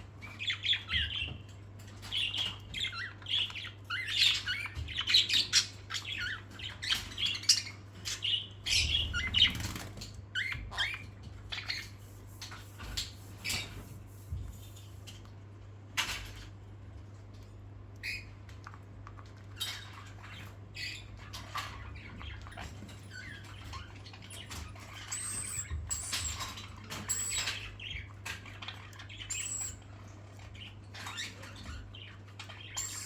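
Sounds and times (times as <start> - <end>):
parrots squawking and chirping: 0.2 - 14.9, 18.0 - 33.0.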